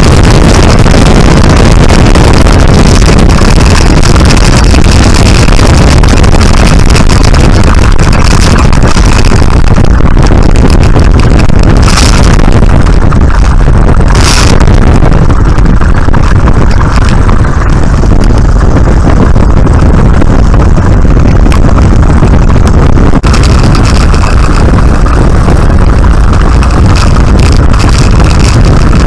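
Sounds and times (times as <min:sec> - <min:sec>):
propeller plane engine running: 0:00.0 - 0:29.0
wind on microphone: 0:00.0 - 0:29.0.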